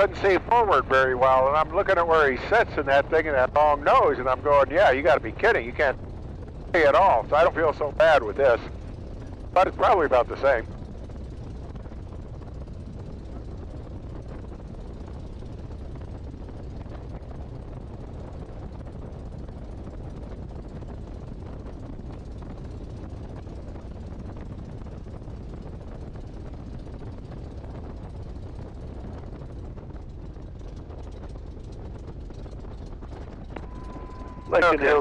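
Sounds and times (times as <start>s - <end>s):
biplane engine droning: 0.0s - 35.0s.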